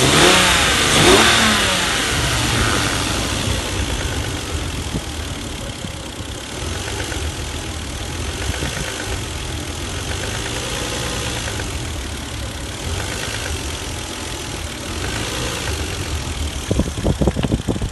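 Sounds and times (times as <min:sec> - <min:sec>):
car engine idling with knock: 0:00.0 - 0:17.9.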